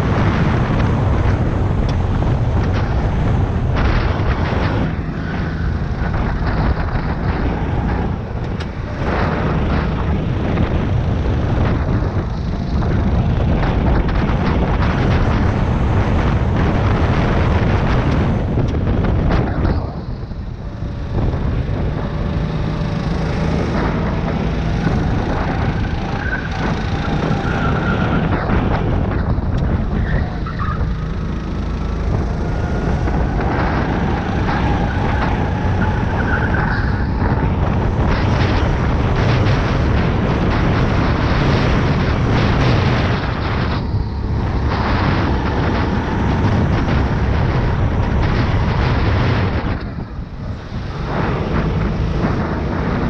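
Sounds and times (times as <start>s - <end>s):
go-kart engine at racing speed: 0.0s - 53.0s
wind noise on microphone: 0.0s - 53.0s.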